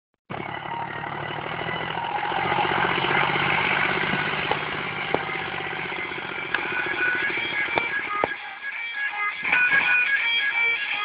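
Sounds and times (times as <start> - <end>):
tractor diesel engine running: 0.3 - 11.0.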